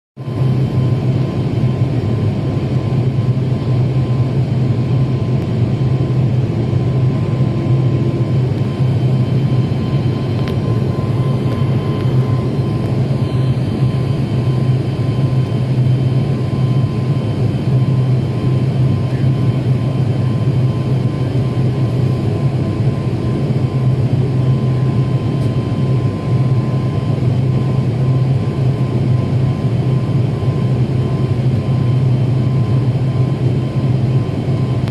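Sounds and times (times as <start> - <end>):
turboprop engines droning: 0.2 - 34.9.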